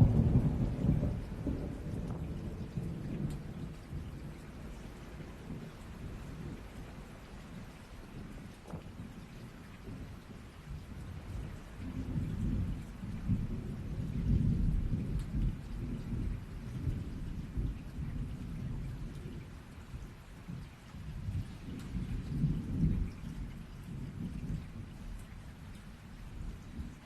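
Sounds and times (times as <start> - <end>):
rolling thunder: 0.0 - 27.0
steady rain: 0.0 - 27.0.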